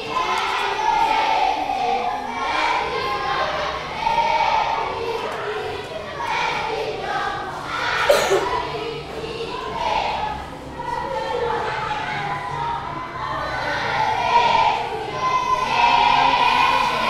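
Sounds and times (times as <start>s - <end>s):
children talking: 0.0s - 17.0s.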